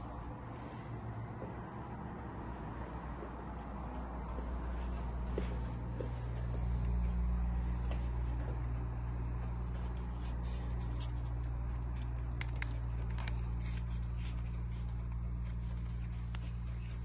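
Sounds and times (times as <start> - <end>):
massage chair motor hum: 0.0 - 17.0.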